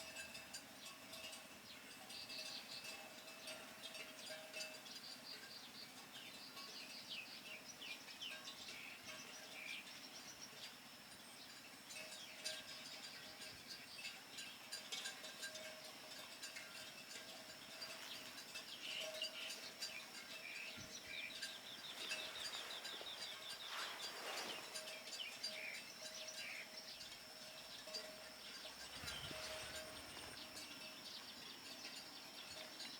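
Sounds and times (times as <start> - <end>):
small birds chirping: 1.6 - 32.9.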